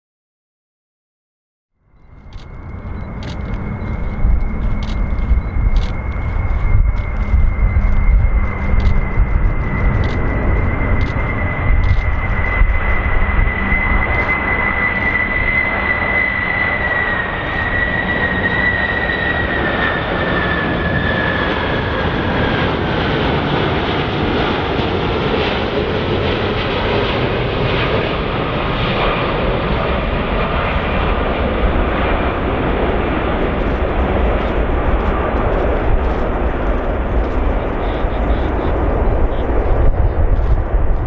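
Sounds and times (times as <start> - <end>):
high jet engine whine: 1.8 - 41.0
jet engine roar: 1.9 - 41.0.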